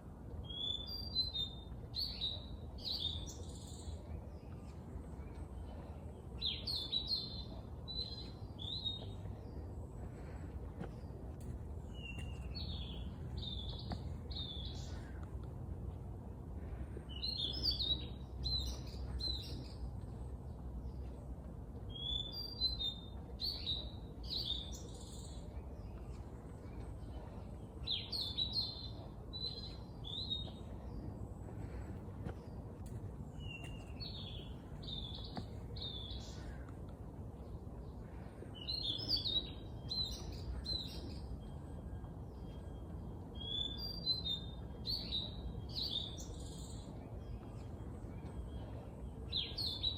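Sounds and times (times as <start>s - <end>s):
songbird chirping: 0.0s - 49.9s.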